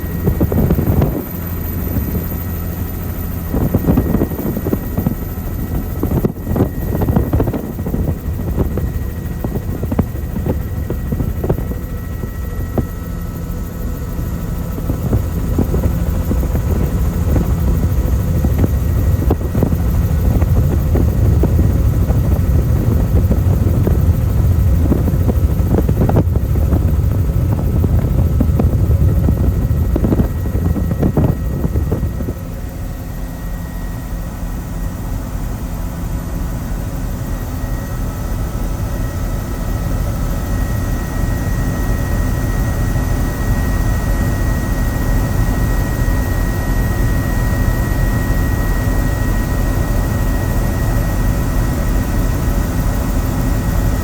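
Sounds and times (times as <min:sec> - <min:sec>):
helicopter rotor rumble: 0:00.0 - 0:54.0.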